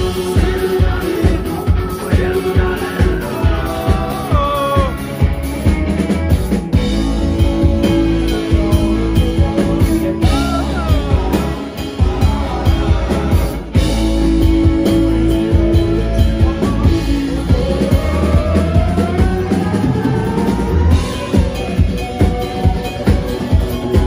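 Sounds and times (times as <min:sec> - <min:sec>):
live rock band playing: 0:00.0 - 0:24.0
singer's vocals: 0:00.0 - 0:24.0.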